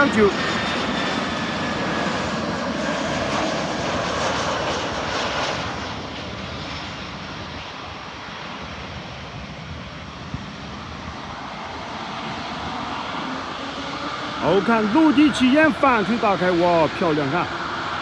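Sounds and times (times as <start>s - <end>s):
jet airliner engines roaring: 0.0s - 18.0s.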